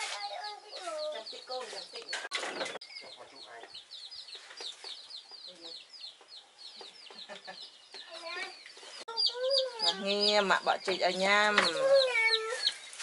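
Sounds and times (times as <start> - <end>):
chicks peeping: 0.2 - 13.0.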